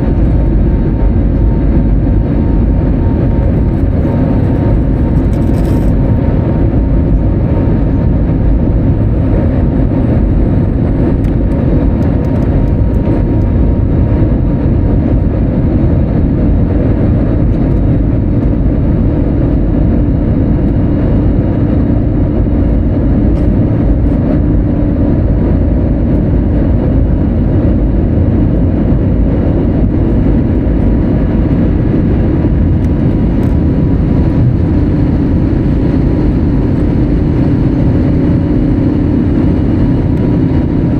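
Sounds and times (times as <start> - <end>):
aircraft cabin engine drone: 0.0 - 40.9.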